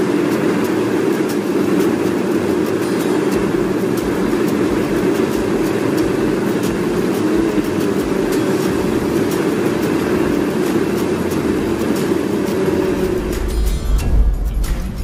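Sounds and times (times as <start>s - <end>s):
faint irregular clicks: 0.0s - 13.6s
machine humming: 0.0s - 15.0s.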